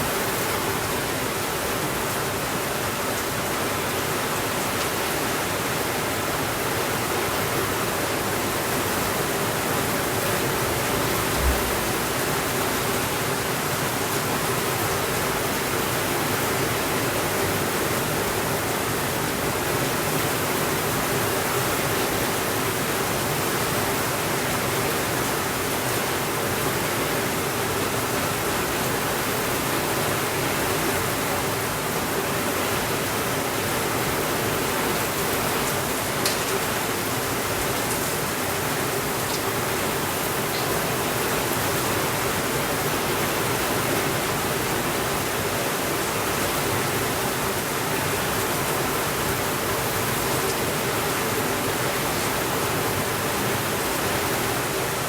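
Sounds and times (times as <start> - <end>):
heavy rain on window: 0.0 - 55.0.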